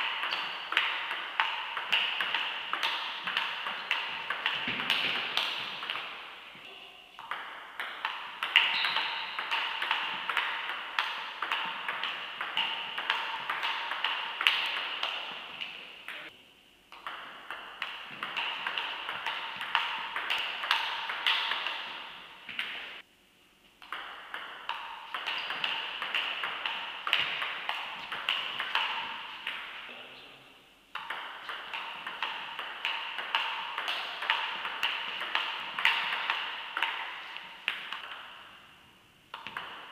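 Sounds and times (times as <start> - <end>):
table tennis ball clicking: 0.0 - 6.2, 7.2 - 16.3, 16.9 - 22.9, 23.8 - 29.7, 30.9 - 38.3, 39.3 - 39.9.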